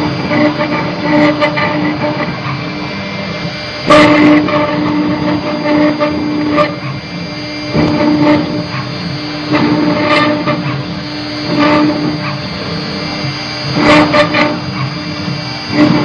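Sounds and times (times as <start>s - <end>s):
router bit grinding stone: 0.0s - 16.0s
router spindle tone: 0.0s - 16.0s.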